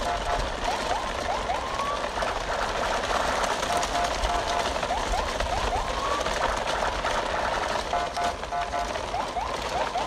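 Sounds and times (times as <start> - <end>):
toy trucks rolling over gravel: 0.0 - 10.0.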